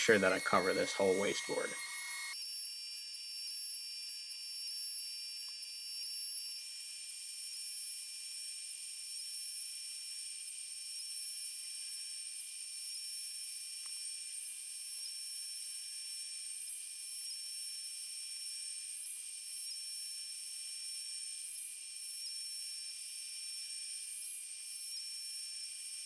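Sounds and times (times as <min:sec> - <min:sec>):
router high-pitched whine: 0:00.0 - 0:26.0.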